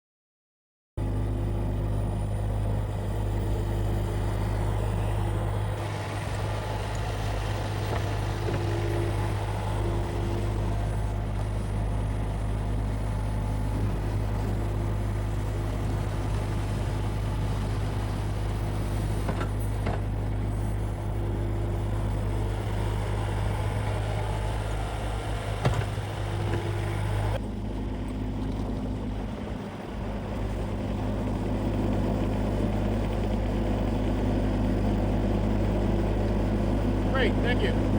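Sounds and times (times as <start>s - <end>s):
excavator engine under load: 1.0s - 37.9s.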